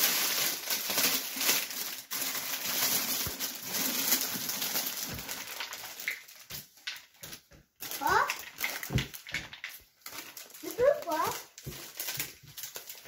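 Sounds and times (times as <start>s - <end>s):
cellophane crinkling: 0.0s - 13.0s.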